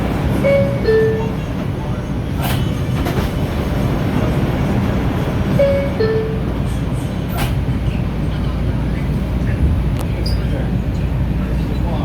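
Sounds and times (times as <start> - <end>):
subway train low rumble: 0.0 - 12.0.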